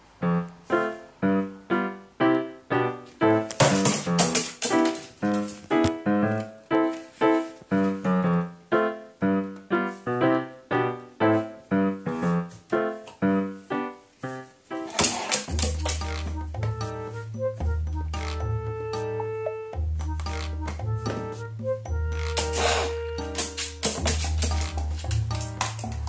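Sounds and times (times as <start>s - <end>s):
piano-style music: 0.0s - 26.0s.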